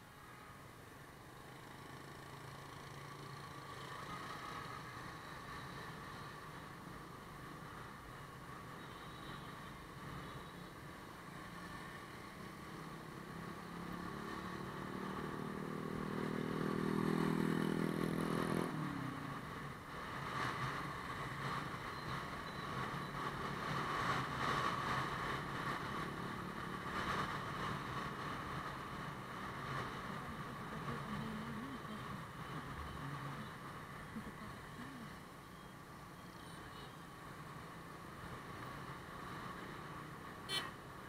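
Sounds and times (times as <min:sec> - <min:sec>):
wind and road rush: 0:00.0 - 0:41.0.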